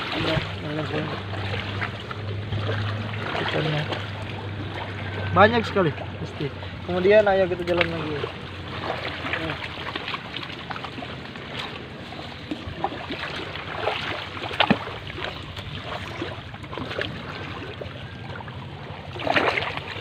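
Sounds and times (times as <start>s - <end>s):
sea surf: 0.0s - 20.0s
wind: 0.0s - 20.0s.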